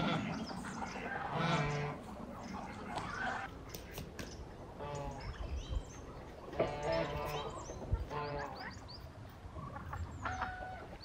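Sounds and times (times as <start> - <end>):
farmyard animal call: 0.0 - 3.5, 4.8 - 5.7, 6.4 - 11.0.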